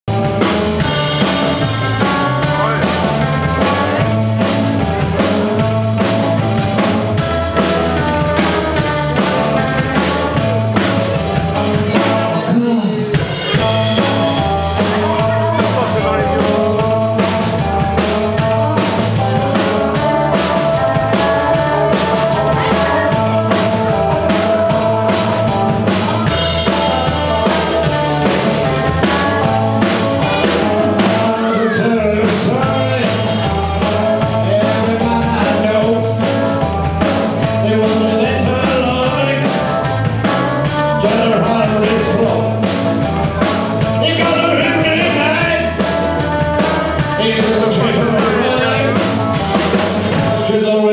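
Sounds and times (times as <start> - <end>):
rock band playing: 0.0 - 50.9
person singing: 0.4 - 50.9.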